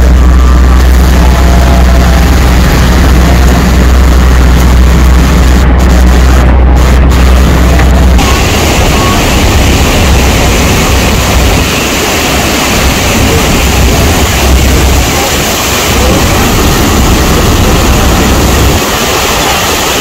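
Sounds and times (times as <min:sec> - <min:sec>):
churning water: 0:00.0 - 0:20.0
wind rumble on microphone: 0:00.0 - 0:20.0
wind rushing: 0:00.0 - 0:20.0.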